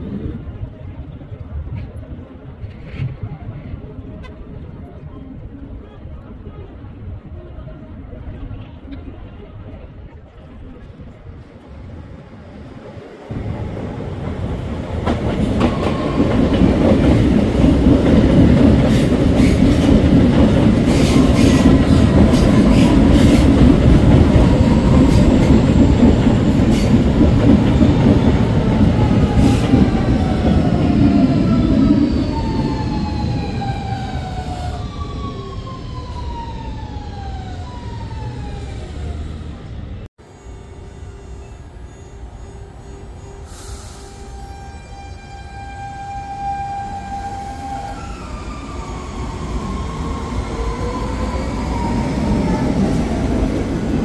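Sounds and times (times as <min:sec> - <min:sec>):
train rail rumble: 0:00.0 - 0:54.0.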